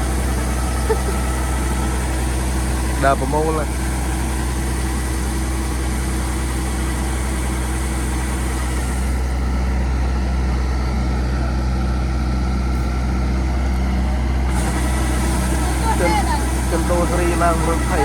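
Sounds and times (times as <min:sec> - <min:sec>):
large engine humming: 0:00.0 - 0:18.0.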